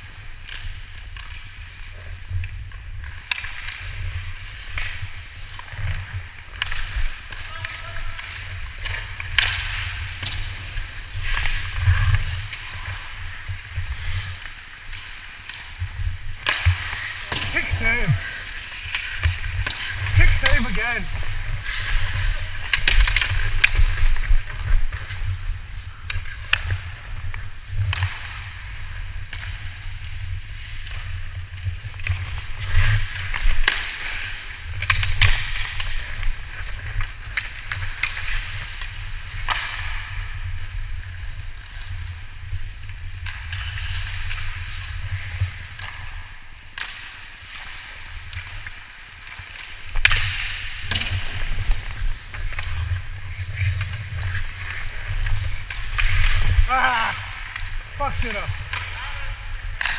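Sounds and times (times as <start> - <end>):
skates scraping on ice: 0.0 - 59.9.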